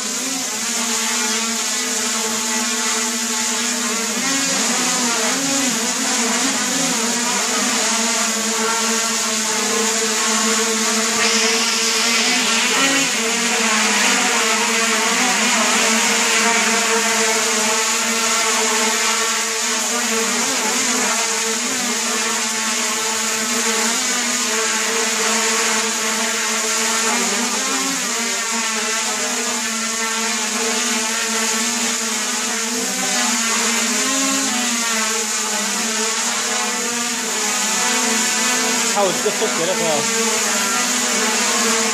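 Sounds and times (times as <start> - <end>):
quadcopter motors whining hum: 0.0 - 41.9.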